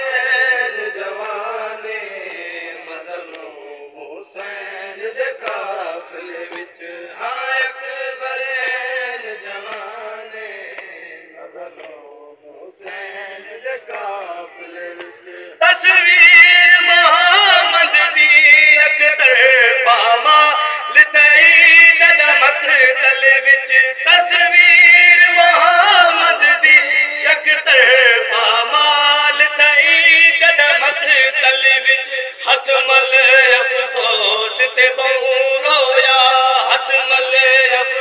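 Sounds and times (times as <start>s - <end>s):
men singing unaccompanied: 0.0s - 38.0s.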